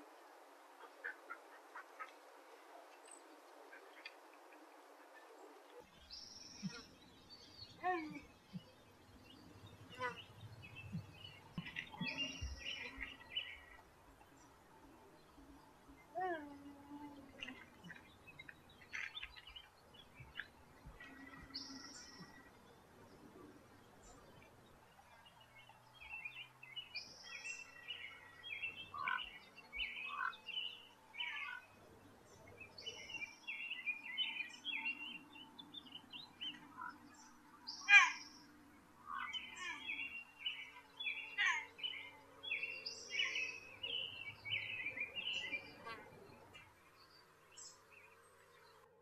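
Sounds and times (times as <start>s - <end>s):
bird chirping: 5.2s - 49.0s.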